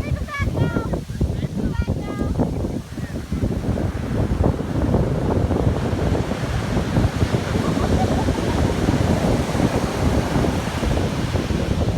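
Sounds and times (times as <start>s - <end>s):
heavy surf breaking: 0.0s - 11.9s
wind buffeting microphone: 0.0s - 11.9s.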